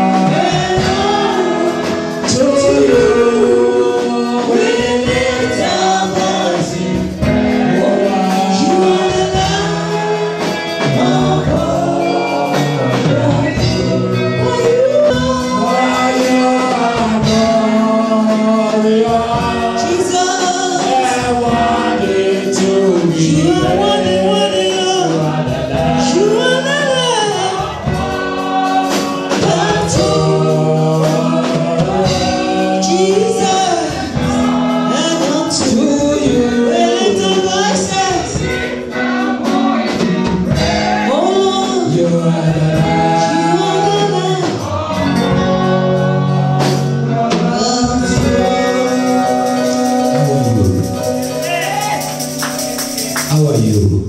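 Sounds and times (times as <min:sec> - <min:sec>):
group singing gospel song: 0:00.0 - 0:53.9
instrumental accompaniment: 0:00.0 - 0:54.0.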